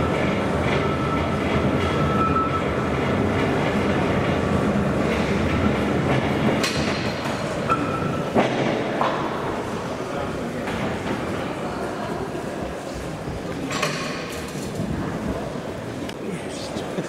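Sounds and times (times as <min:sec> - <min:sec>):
railway turntable rumbling: 0:00.0 - 0:16.2.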